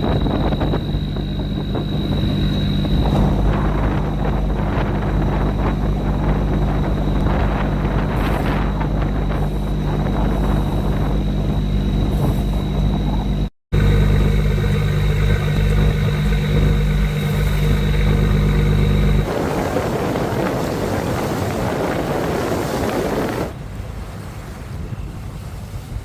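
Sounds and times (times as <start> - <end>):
boat engine running: 0.0 - 25.2
water noise: 0.0 - 26.0
wind: 0.0 - 26.0.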